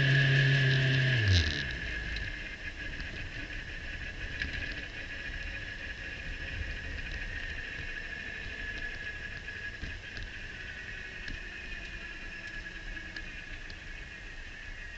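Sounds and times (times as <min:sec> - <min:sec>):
tyre and road rumble: 0:00.0 - 0:12.7
faint ticks: 0:00.0 - 0:14.9
steady high whine: 0:00.0 - 0:14.9.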